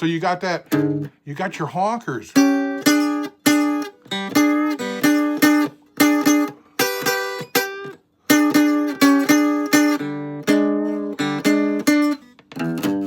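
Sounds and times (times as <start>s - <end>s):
guitar playing blues stabs: 0.0s - 13.0s.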